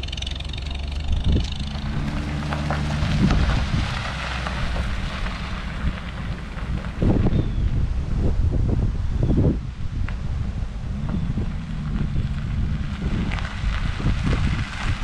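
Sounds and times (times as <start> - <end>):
vehicle engine running: 0.0 - 15.0
wind noise on microphone: 1.0 - 15.0.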